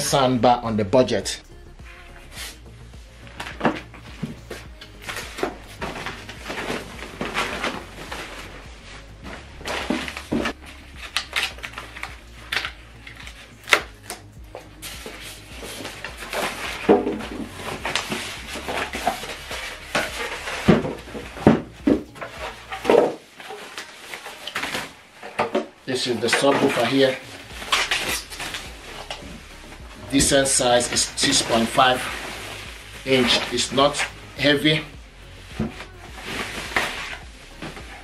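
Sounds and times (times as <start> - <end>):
foam scraping and creaking: 2.0 - 38.0
plastic bag rustling: 3.3 - 38.0.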